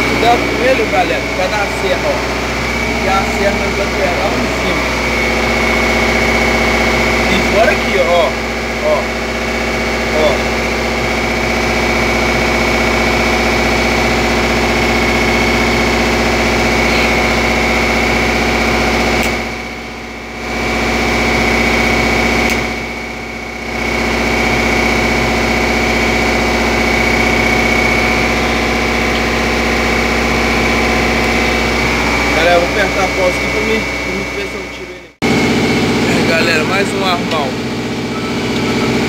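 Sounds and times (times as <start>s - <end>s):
motor humming with high whine: 0.0s - 39.0s.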